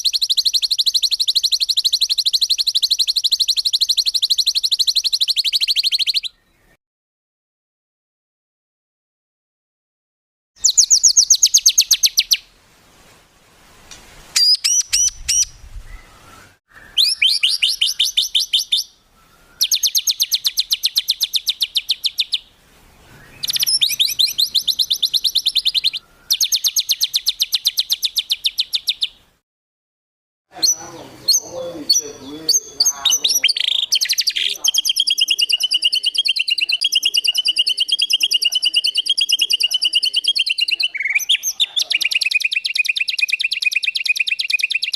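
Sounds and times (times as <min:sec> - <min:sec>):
songbird trilling: 0:00.0 - 0:06.7, 0:10.6 - 0:12.5, 0:14.4 - 0:29.2, 0:30.5 - 0:44.9.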